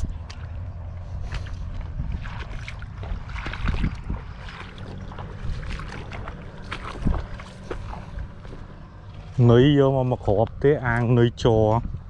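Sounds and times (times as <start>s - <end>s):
water splashing: 0.0s - 11.8s
low steady rumble: 0.0s - 12.0s.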